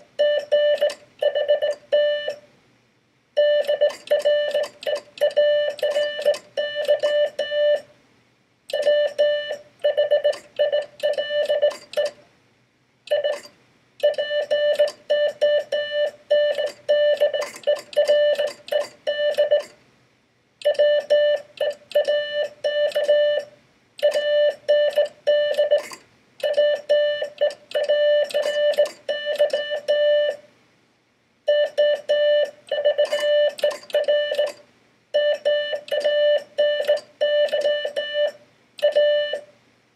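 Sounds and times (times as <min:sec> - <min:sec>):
morse code sidetone beeping: 0:00.2 - 0:02.4, 0:03.4 - 0:07.9, 0:08.7 - 0:12.2, 0:13.1 - 0:19.7, 0:20.6 - 0:30.4, 0:31.5 - 0:34.6, 0:35.2 - 0:39.5.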